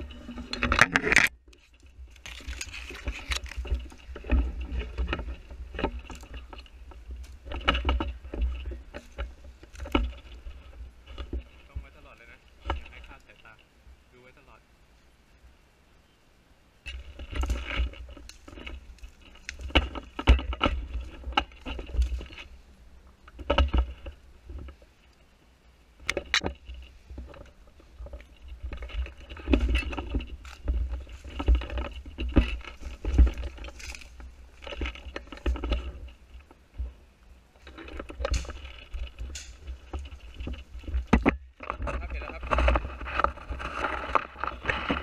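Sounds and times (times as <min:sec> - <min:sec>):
leaves rustling: 0:00.0 - 0:45.0.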